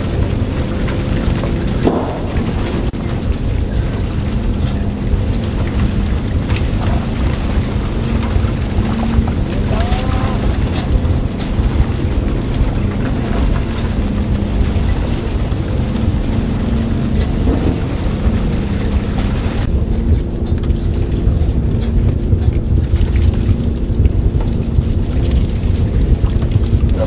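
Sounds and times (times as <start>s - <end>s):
boat engine droning: 0.0s - 27.0s
hiss of wind and water: 0.0s - 27.0s.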